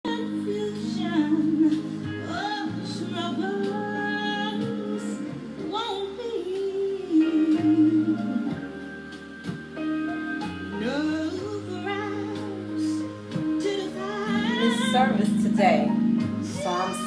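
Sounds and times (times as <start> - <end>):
instrumental backing music: 0.0 - 17.0
woman singing with vibrato: 0.1 - 8.7, 10.7 - 17.0.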